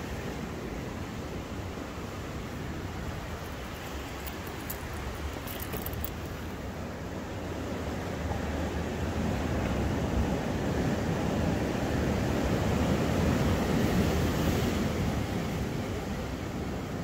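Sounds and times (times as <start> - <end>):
waves washing on rocks: 0.0 - 16.8.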